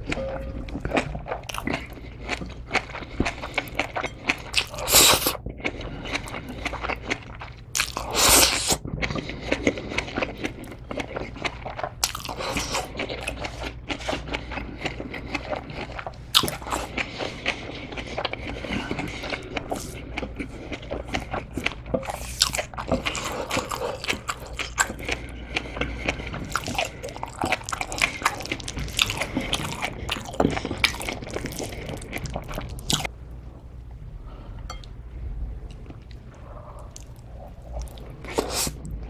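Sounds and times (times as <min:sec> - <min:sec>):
wet chewing with crunches: 0:00.0 - 0:33.1.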